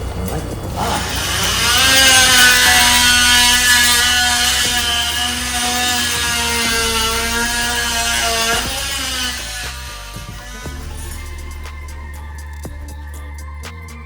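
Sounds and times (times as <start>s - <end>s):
multi-tool cutting wood: 0.0s - 11.8s.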